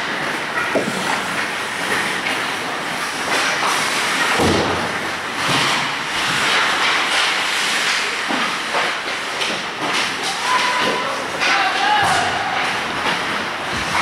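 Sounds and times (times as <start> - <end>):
skate blades scraping ice: 0.0 - 14.0
sticks and puck knocking: 0.0 - 14.0.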